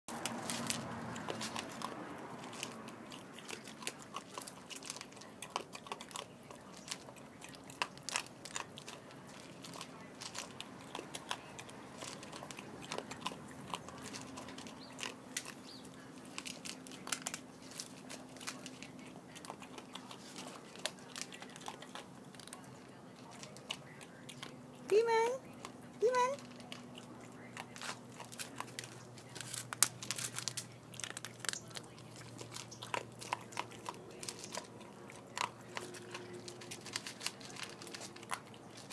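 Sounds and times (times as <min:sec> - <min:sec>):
pets crunching dry kibble: 0:00.1 - 0:38.9.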